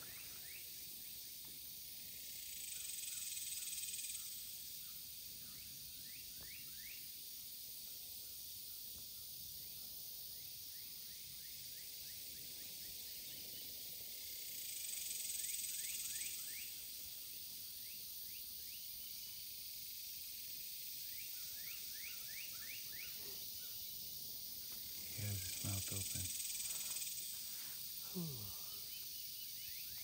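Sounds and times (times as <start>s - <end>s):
high insect hiss: 0.0s - 30.0s.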